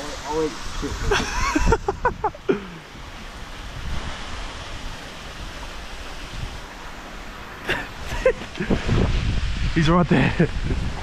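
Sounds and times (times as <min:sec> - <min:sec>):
wind buffeting microphone: 0:00.8 - 0:06.8, 0:08.0 - 0:11.0.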